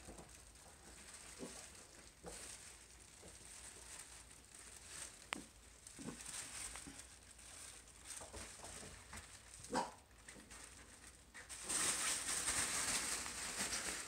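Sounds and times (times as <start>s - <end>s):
puppies rustling and pattering: 0.0s - 14.0s.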